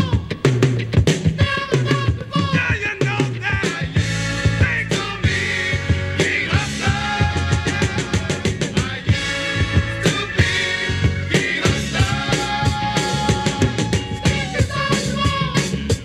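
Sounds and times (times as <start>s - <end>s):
funk recording playing: 0.0s - 16.0s.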